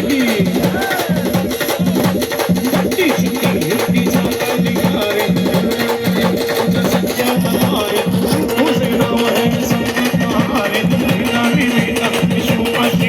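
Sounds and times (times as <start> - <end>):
fast drumming: 0.0 - 13.0.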